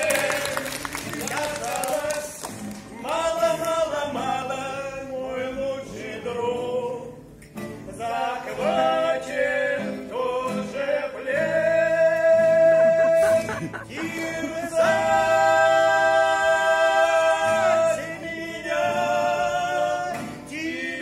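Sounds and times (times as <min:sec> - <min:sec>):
men singing: 0:00.0 - 0:07.2, 0:07.8 - 0:21.0
acoustic guitar: 0:00.0 - 0:21.0.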